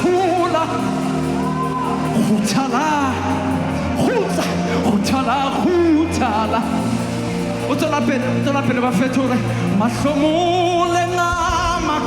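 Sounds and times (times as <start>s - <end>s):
man singing gospel song: 0.0s - 1.4s, 2.0s - 12.0s
band accompaniment with bass: 0.0s - 12.0s.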